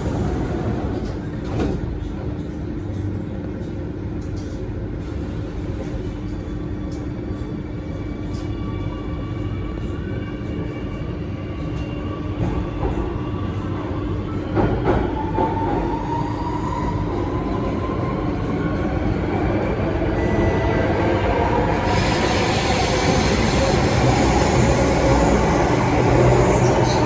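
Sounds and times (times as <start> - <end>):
train running gear rumble: 0.0 - 27.0.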